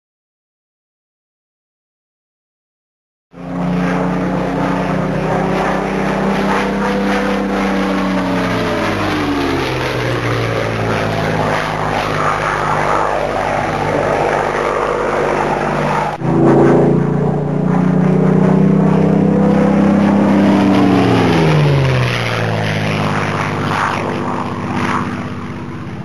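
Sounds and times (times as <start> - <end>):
propeller plane flying past: 3.3 - 26.0.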